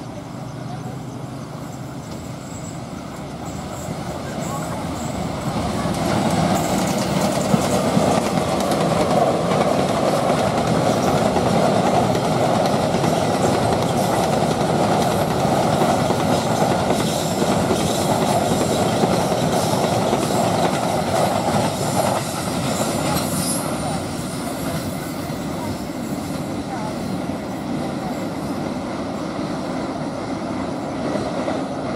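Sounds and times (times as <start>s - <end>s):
train wheels on rails: 0.0s - 31.9s.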